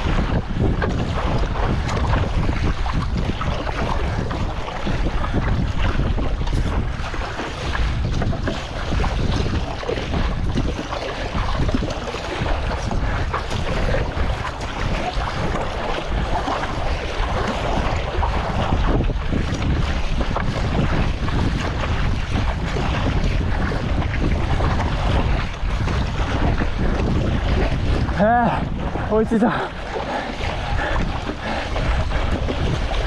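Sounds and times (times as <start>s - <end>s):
choppy sea water: 0.0s - 33.0s
wind buffeting microphone: 0.0s - 33.0s.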